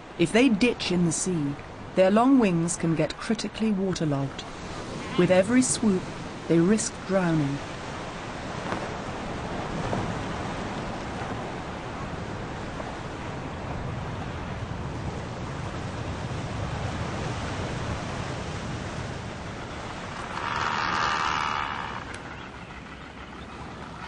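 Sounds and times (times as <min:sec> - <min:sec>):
waves: 0:00.0 - 0:24.0
wind over water: 0:00.0 - 0:24.0.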